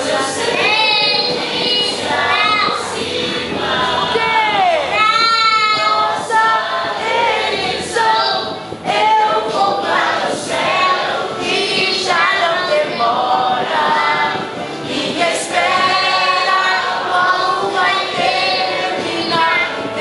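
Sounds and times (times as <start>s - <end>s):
child singing church song: 0.0s - 20.0s
voices singing along: 0.0s - 20.0s.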